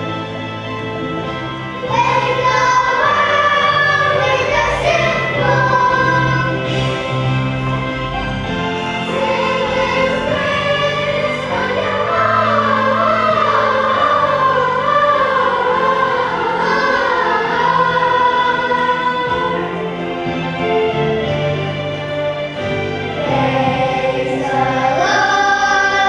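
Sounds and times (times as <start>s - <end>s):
children's choir singing: 0.0s - 26.0s
instrumental accompaniment: 0.0s - 26.0s.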